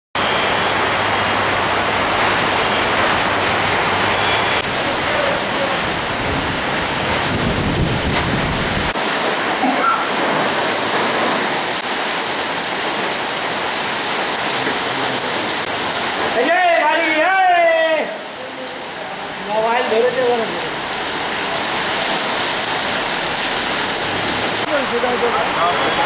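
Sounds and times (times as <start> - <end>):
heavy rain pouring: 0.2 - 26.0.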